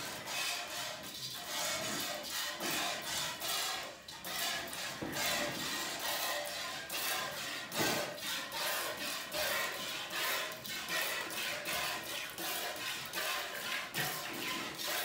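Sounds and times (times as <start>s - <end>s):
milk squirting into a pail: 0.0s - 15.0s.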